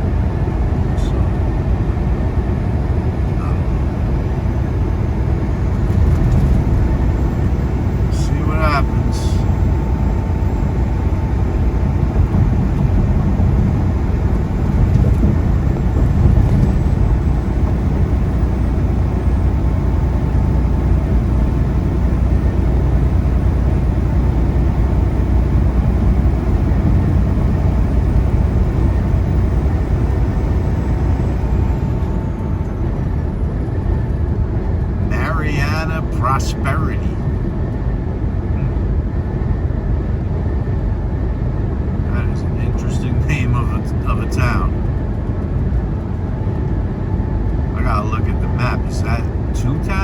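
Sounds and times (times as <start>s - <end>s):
faint steady whine: 0.0s - 50.0s
truck engine and road rumble: 0.0s - 50.0s.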